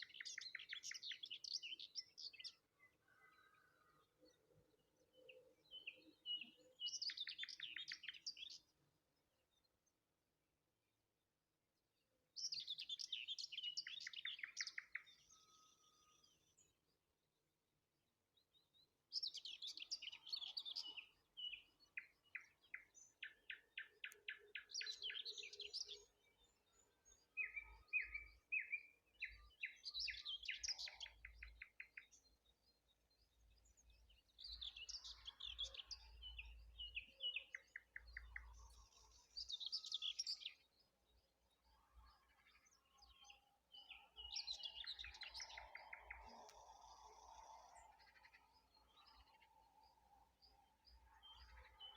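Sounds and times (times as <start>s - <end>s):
songbirds singing: 0.0s - 10.9s, 11.6s - 51.9s.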